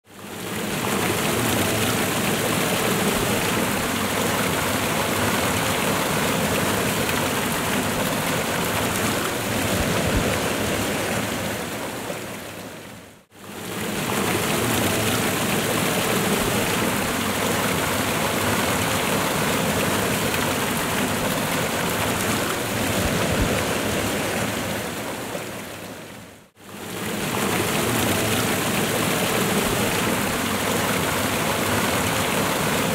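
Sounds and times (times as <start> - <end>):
waterfall splashing into pool: 0.2 - 32.9.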